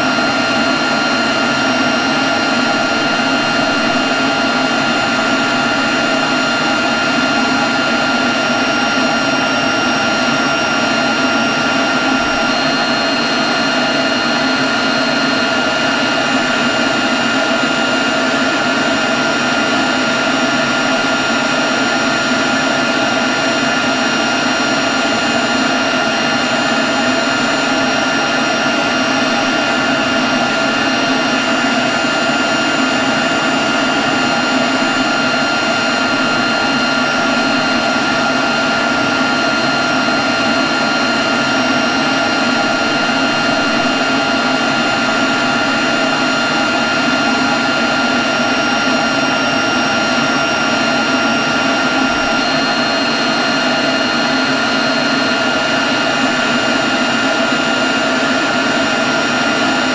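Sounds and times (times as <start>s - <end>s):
leaf blower running: 0.0s - 59.9s.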